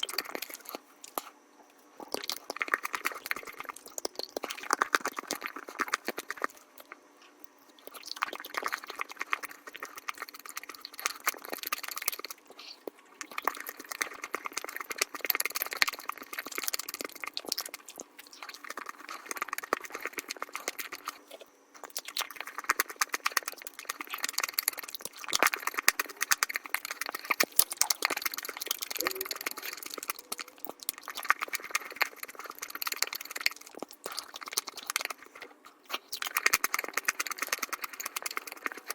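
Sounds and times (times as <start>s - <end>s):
sped-up chewing and crunching: 0.0s - 38.9s.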